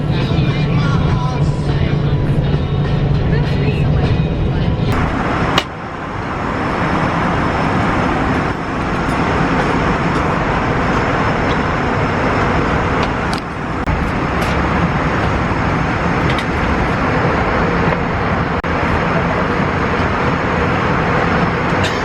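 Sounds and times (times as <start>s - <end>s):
vehicle roar with low rumble: 0.0s - 22.0s.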